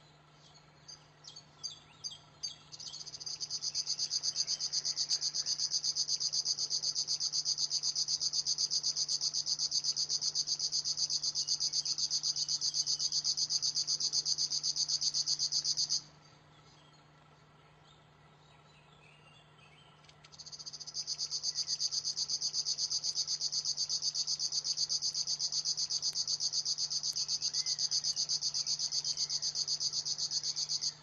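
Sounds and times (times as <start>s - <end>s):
bird reeling song: 0.0s - 31.0s.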